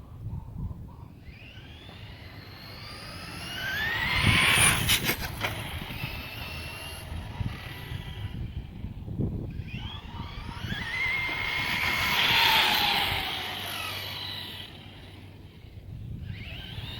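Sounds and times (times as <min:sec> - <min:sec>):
rc truck motor whining: 0:01.1 - 0:16.9.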